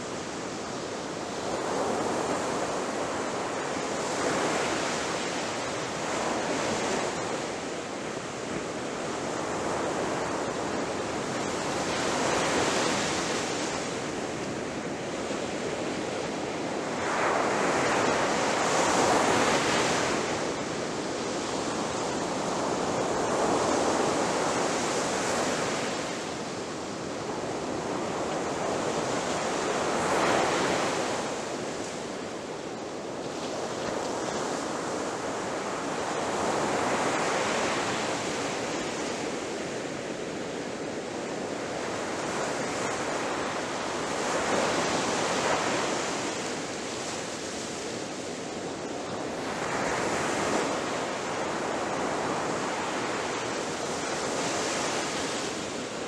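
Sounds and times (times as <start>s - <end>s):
sea waves breaking on shore: 0.0s - 56.0s.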